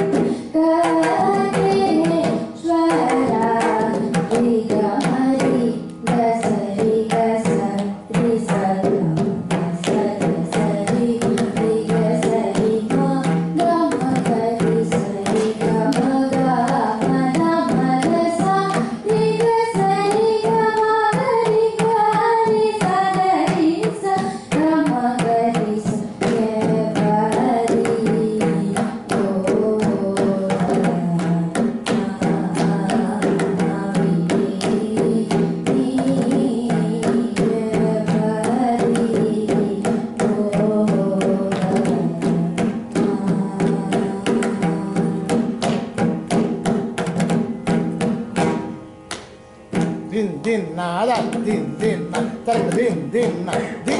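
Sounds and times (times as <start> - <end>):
girl singing: 0.0 - 45.9
hand drum strokes: 0.0 - 53.9.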